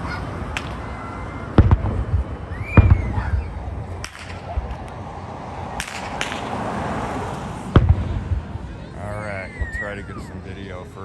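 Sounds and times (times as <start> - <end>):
fireworks bangs: 0.0 - 10.7.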